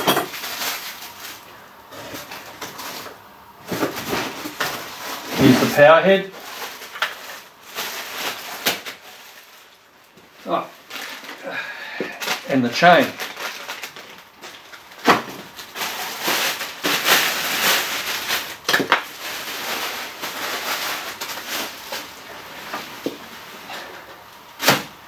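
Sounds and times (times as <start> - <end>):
packaging rustling and crinkling: 0.1 - 25.0.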